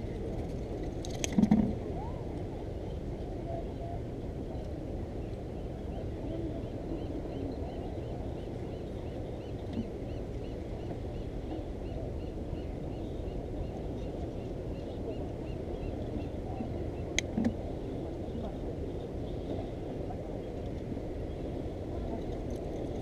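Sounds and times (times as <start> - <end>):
sea: 0.0 - 23.0
wind: 0.0 - 23.0.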